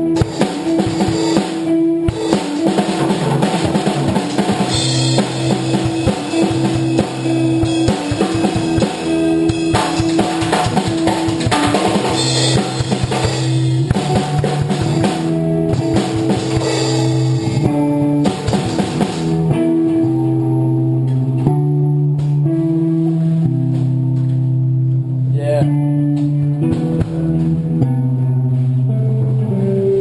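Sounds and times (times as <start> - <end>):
band playing: 0.0 - 30.0
drums: 0.0 - 30.0.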